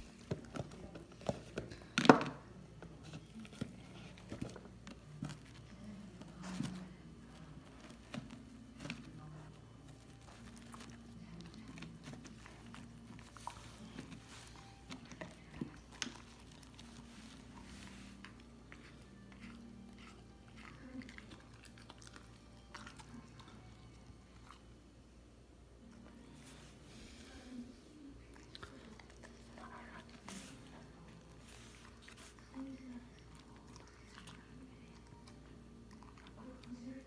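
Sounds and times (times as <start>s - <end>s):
dog eating with mouth sounds: 0.0s - 25.2s, 25.8s - 37.0s.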